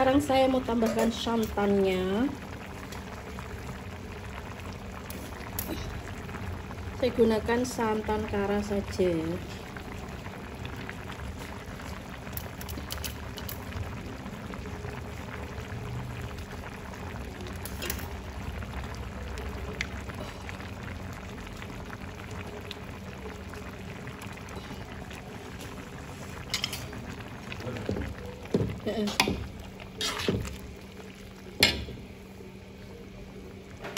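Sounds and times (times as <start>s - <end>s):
stew bubbling in a pot: 0.0s - 33.9s.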